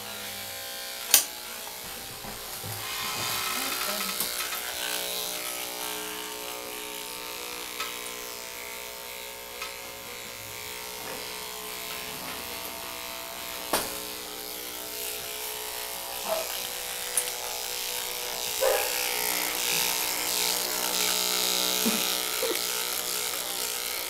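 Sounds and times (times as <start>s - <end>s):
electric clippers buzzing: 0.0s - 24.0s.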